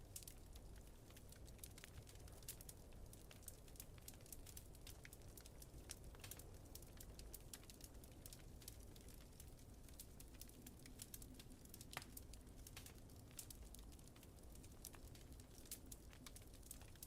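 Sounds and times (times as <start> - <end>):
faint wood fire crackling: 0.0 - 17.0
low rumble of blizzard wind: 0.0 - 17.0.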